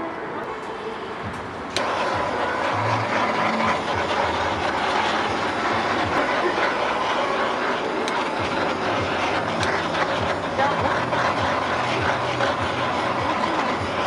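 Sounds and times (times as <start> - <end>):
blowtorch flame hissing: 0.5 - 14.0.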